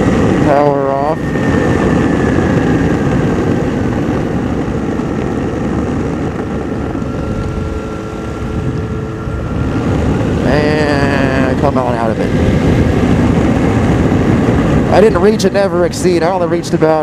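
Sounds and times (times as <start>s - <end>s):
airflow rushing: 0.0s - 17.0s
small aircraft engine idling: 0.0s - 17.0s.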